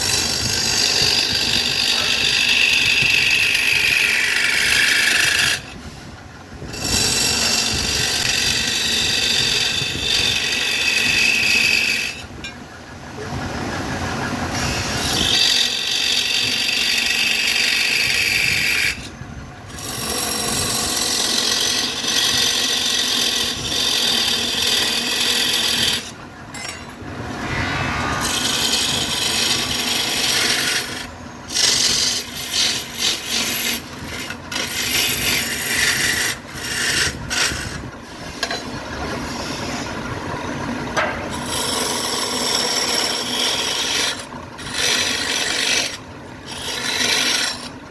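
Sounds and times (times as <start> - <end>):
lathe tool rasping on wood: 0.0 - 5.7, 6.7 - 12.2, 14.9 - 19.1, 19.7 - 26.1, 27.4 - 37.8, 41.4 - 47.7.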